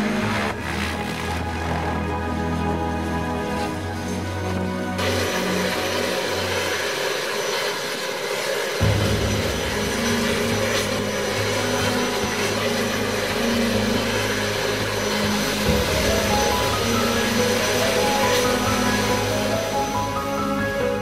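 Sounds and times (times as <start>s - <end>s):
propeller aircraft engine roaring: 0.0s - 21.0s.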